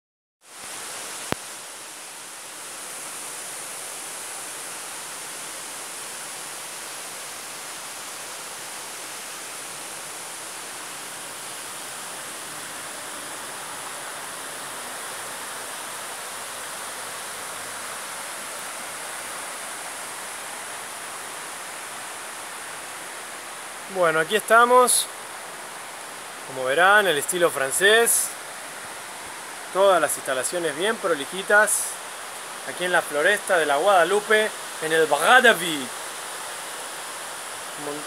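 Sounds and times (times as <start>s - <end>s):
river rushing over rocks: 0.5s - 38.0s.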